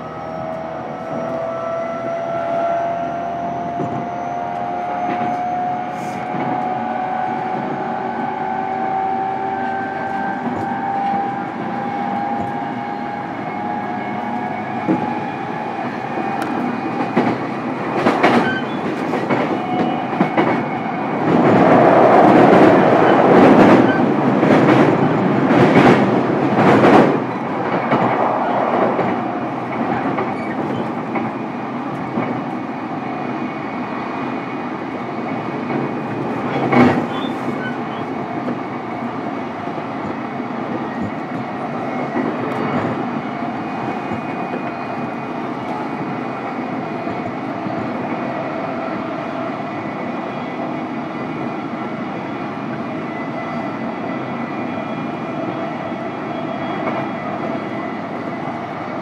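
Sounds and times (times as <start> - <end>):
train rolling noise: 0.0 - 59.0.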